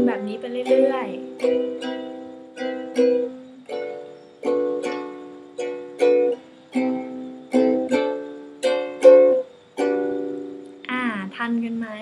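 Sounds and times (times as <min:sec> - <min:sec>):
ukulele strumming: 0:00.0 - 0:10.9.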